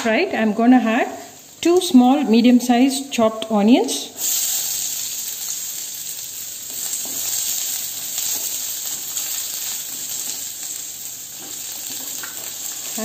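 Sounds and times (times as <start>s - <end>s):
onions sizzling in oil: 0.8s - 3.1s, 3.8s - 13.0s.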